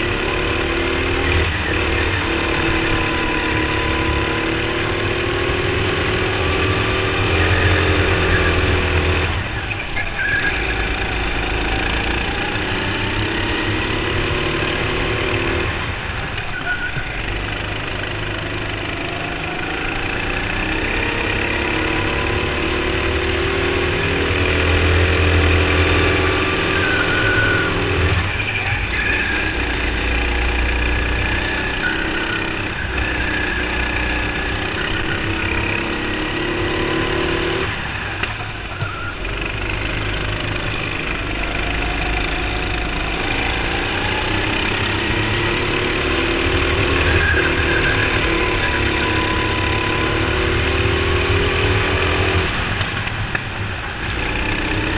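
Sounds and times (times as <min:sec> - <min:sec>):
go-kart engine revving: 0:00.0 - 0:54.9
other kart engines: 0:00.0 - 0:54.9.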